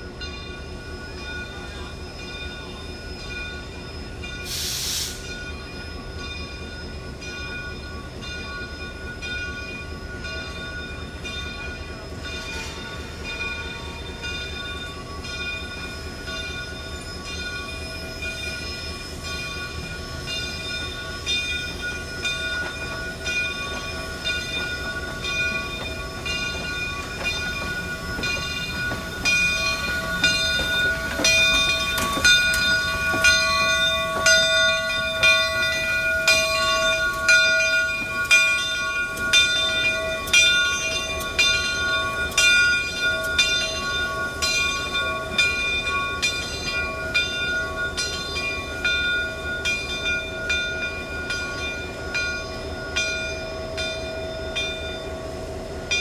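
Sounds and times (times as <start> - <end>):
steam locomotive bell ringing: 0.0 - 56.0
steam locomotive moving: 0.0 - 56.0.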